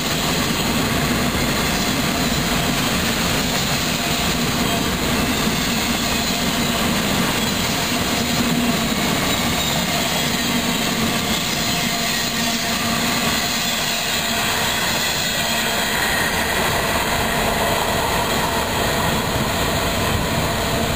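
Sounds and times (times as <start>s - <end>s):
freight train wheels on track: 0.0s - 20.9s.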